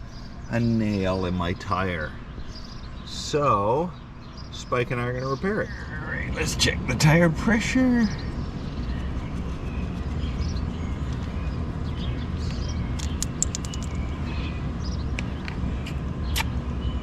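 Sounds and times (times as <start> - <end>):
low outdoor rumble: 0.0 - 17.0
small birds chirping: 0.0 - 17.0.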